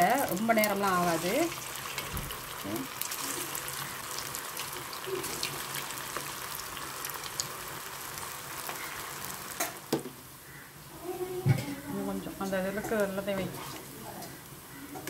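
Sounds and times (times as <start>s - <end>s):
food deep-frying in oil: 0.0s - 15.0s.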